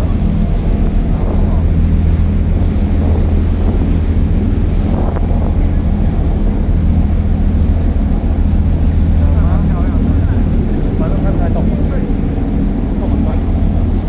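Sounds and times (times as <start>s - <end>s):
boat engine humming: 0.0s - 14.0s
water rushing in wake: 0.0s - 14.0s
wind buffeting microphone: 0.0s - 14.0s.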